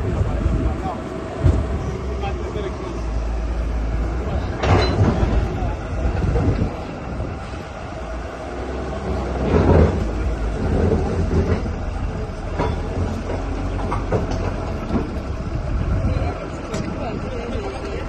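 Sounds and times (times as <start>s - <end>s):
heavy machinery rumbling: 0.0s - 18.0s.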